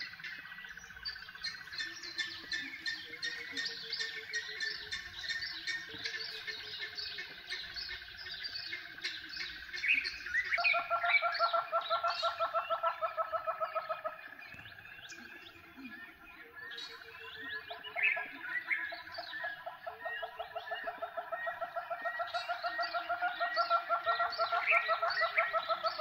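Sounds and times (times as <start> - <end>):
birds chirping and trilling: 0.0 - 26.0
rapid cackling bird call: 0.0 - 26.0.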